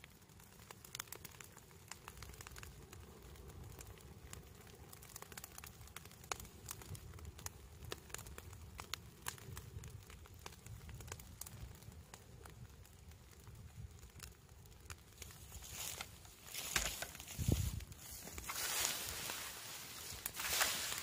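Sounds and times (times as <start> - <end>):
dry leaves burning crackling: 0.0 - 21.0.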